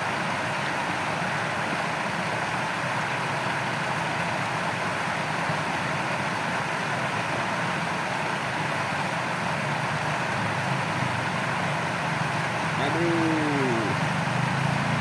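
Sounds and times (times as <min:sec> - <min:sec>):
water flowing in stream: 0:00.0 - 0:15.0.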